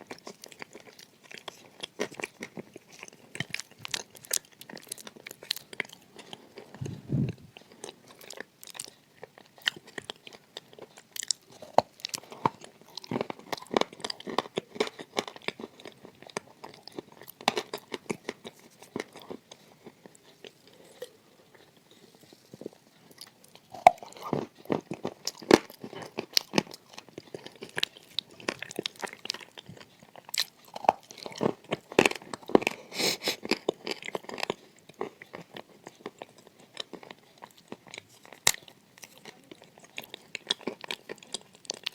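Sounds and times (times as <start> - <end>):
biting and chewing crunchy clay: 0.0 - 41.9.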